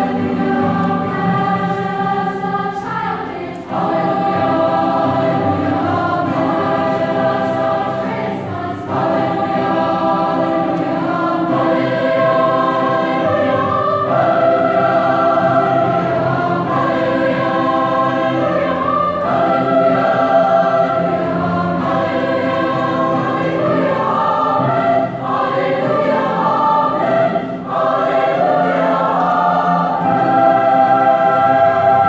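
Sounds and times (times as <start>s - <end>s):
choir singing held chords: 0.0s - 32.0s.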